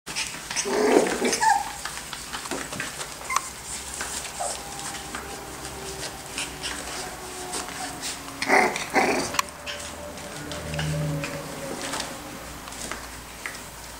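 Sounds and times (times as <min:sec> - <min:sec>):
puppy whining: 0:00.1 - 0:13.0
puppy scrabbling and scratching: 0:00.1 - 0:13.7.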